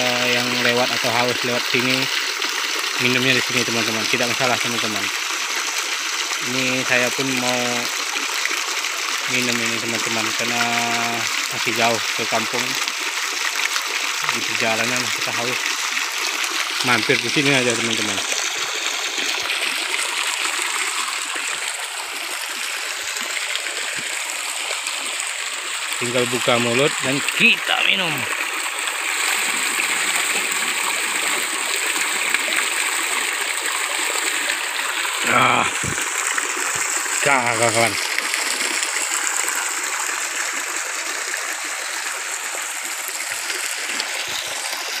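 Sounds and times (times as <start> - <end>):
water splashing into pool: 0.0 - 45.0.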